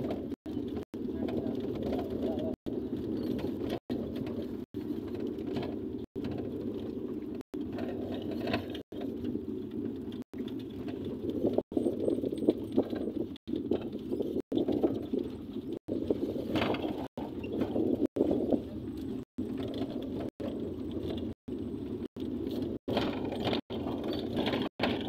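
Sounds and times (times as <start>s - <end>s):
car cabin road rumble: 0.0s - 25.0s
knocks and rattles on rough road: 0.0s - 25.0s.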